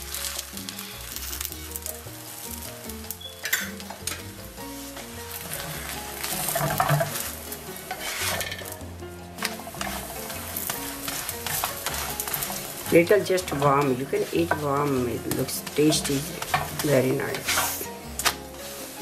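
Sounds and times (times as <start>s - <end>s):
spatula scraping a pan: 0.0s - 19.0s
tortilla sizzling in a skillet: 0.0s - 19.0s.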